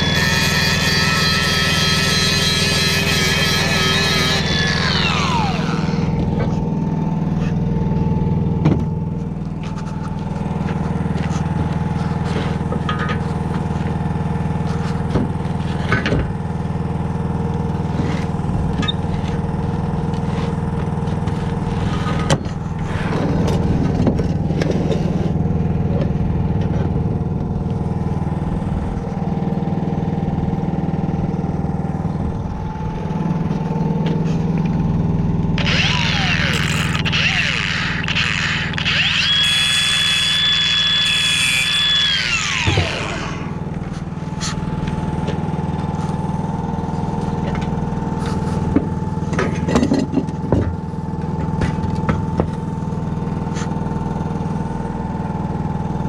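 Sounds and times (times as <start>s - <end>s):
engine humming steadily: 0.0s - 56.0s.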